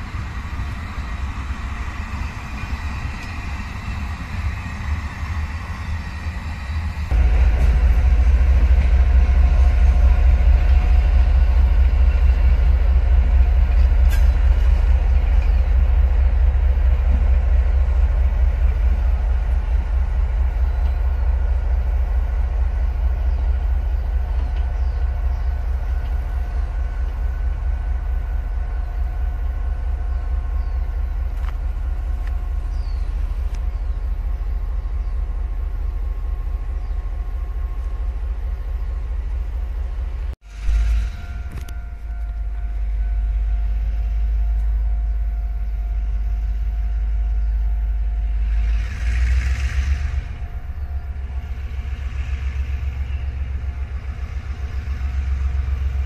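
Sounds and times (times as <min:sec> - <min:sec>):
diesel locomotives running: 0:00.0 - 0:56.0
freight wagons rumbling on rails: 0:00.0 - 0:56.0.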